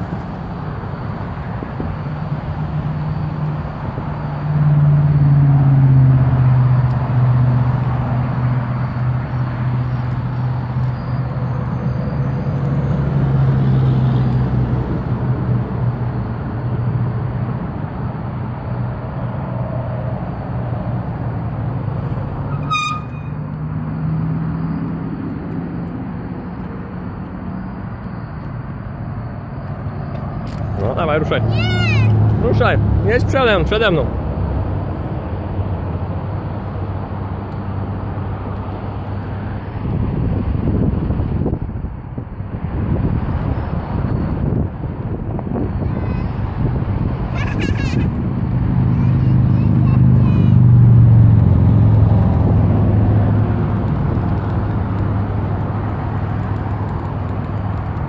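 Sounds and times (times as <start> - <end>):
car engines passing: 0.0 - 58.0.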